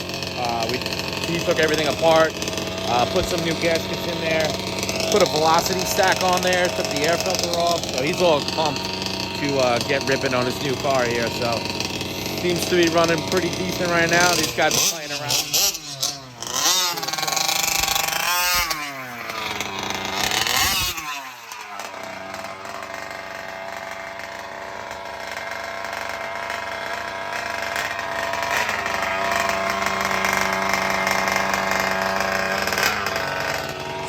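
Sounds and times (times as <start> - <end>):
two-stroke engine revving and idling: 0.0 - 34.0.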